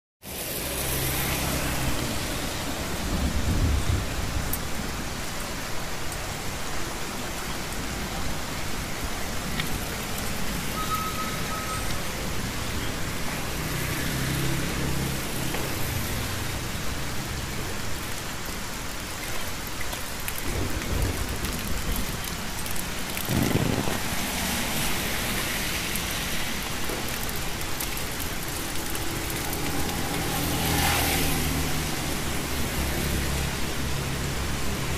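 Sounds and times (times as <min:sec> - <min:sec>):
motorbikes passing on wet road: 0:00.2 - 0:34.9
rain on wet street: 0:00.2 - 0:34.9.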